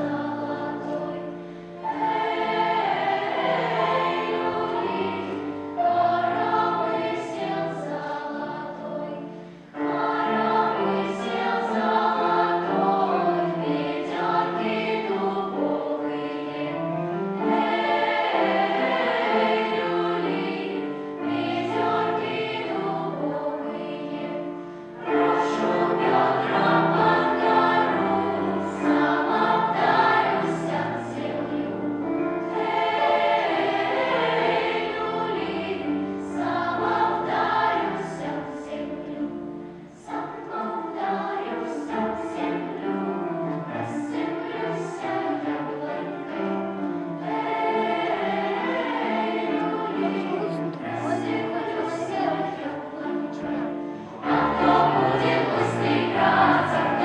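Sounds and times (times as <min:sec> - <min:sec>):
children's choir singing: 0:00.0 - 0:57.0.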